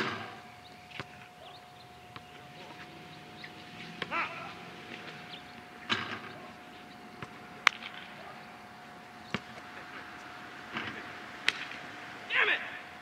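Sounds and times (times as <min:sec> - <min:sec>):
faint players' voices: 0:00.0 - 0:13.0.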